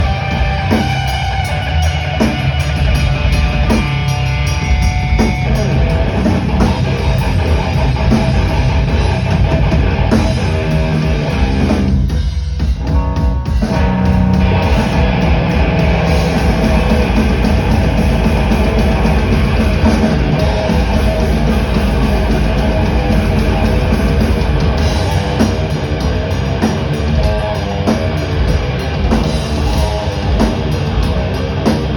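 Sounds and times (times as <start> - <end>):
drum kit: 0.0 - 31.9
electric guitars: 0.0 - 31.9.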